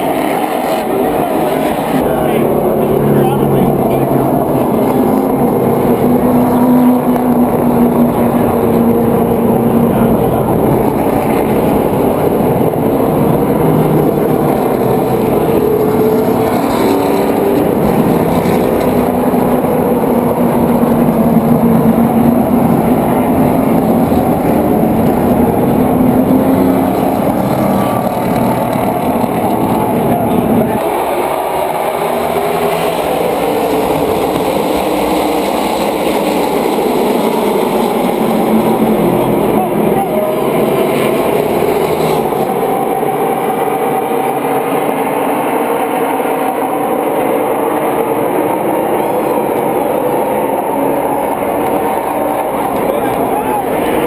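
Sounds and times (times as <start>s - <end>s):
race car engines running: 0.0s - 54.0s.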